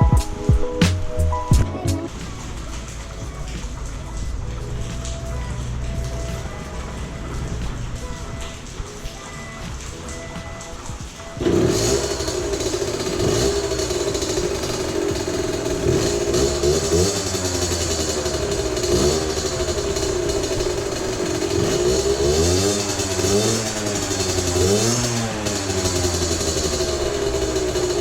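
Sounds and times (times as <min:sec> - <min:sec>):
two-stroke engine throttle blips: 0:02.1 - 0:28.0.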